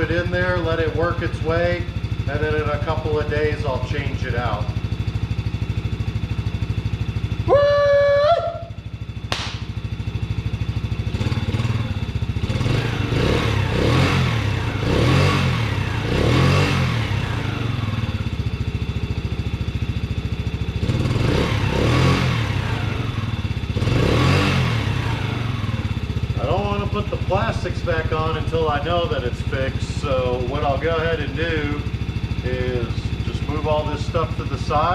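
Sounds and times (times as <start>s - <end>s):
atv engine running: 0.0s - 34.9s
engine throttle blips: 0.0s - 34.9s.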